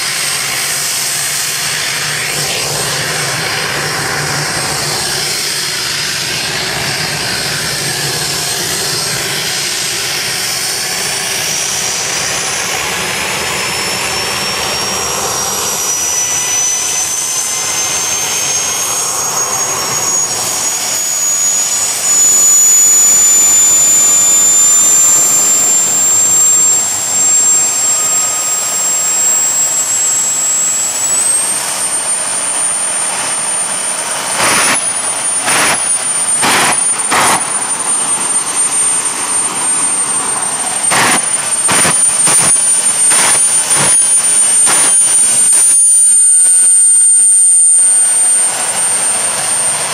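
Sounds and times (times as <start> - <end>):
jet engine turbine whine: 0.0 - 49.9.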